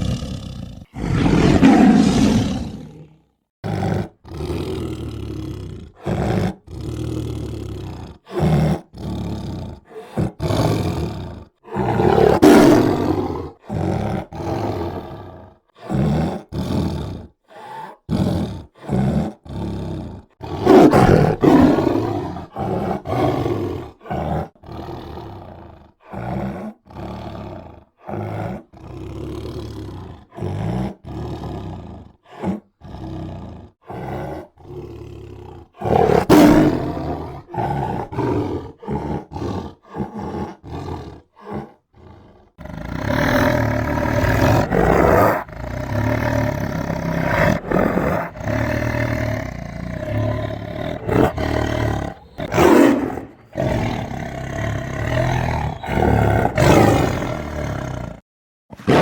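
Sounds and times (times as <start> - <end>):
tiger roaring and growling: 0.0 - 59.0.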